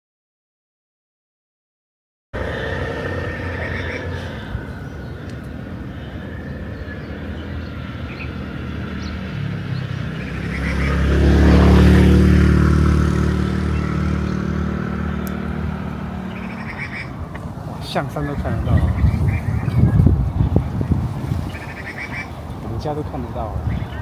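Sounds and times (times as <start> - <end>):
vehicle engine passing by: 2.4 - 24.0.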